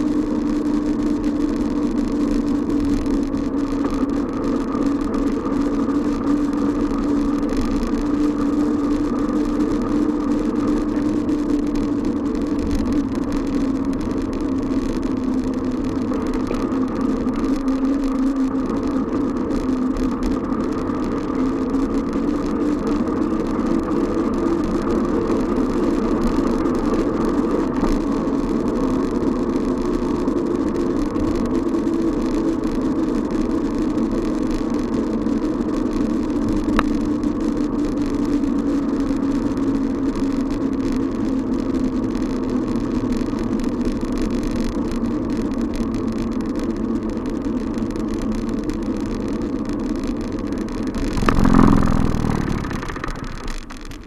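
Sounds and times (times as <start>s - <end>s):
bicycle tyre hum on road: 0.0s - 54.0s
wind: 0.0s - 54.0s.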